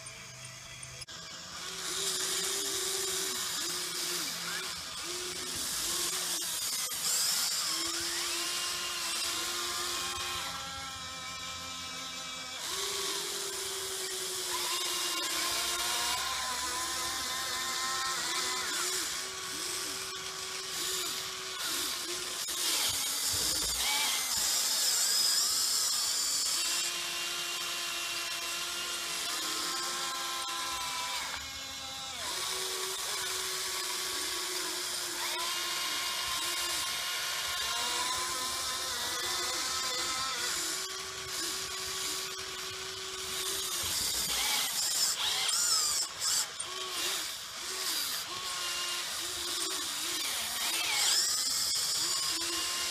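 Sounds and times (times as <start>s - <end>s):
electric motors whining: 0.0s - 52.9s.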